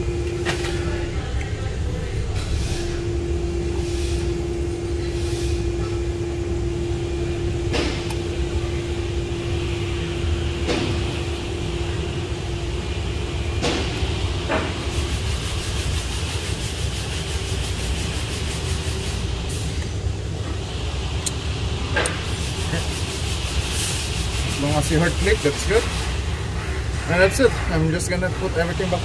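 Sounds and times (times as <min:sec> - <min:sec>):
low workshop rumble: 0:00.0 - 0:29.0
steady hum: 0:00.0 - 0:29.0.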